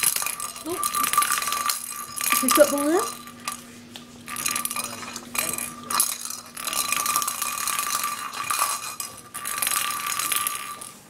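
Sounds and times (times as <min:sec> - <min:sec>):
toy ball rattling and jingling: 0:00.0 - 0:03.6, 0:04.3 - 0:11.0.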